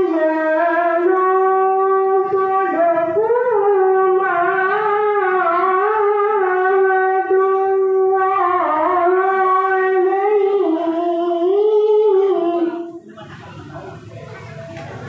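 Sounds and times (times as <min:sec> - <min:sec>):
boy reciting melodically into microphone: 0:00.0 - 0:13.3.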